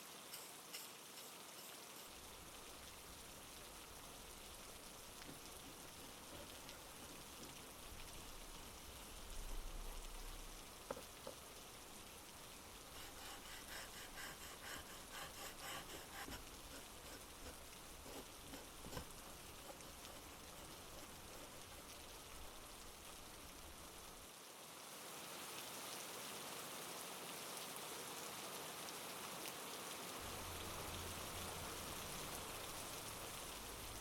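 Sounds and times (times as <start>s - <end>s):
soft steady rain: 0.0s - 34.0s.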